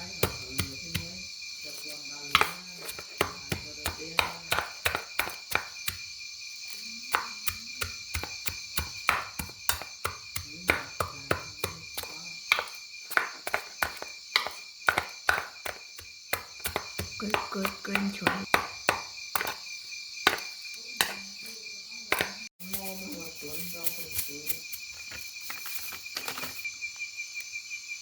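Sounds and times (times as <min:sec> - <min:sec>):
chopping or knocking strokes: 0:00.0 - 0:06.1, 0:06.7 - 0:19.7, 0:20.3 - 0:21.5, 0:22.1 - 0:24.7
insects droning: 0:00.0 - 0:28.0.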